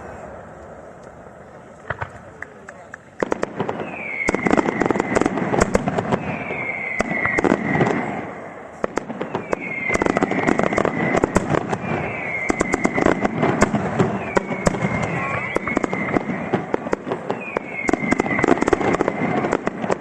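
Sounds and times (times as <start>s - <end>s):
fireworks bangs and crackling: 0.0s - 20.0s
firework whistles gliding down: 3.2s - 20.0s.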